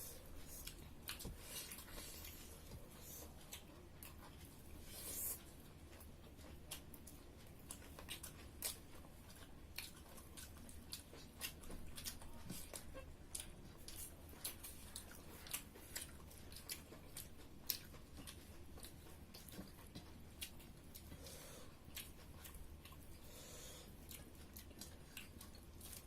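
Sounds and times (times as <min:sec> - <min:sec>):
people chewing and eating: 0:00.0 - 0:26.0.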